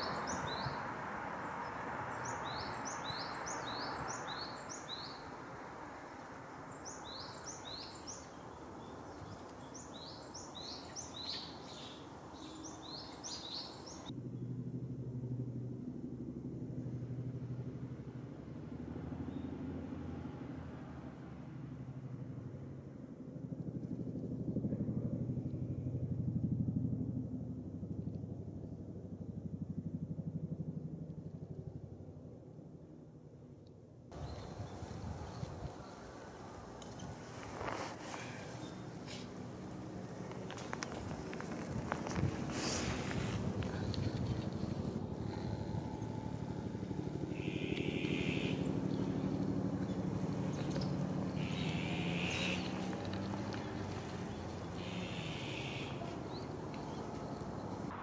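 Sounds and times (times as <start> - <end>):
low pulsing engine: 0.0 - 58.0.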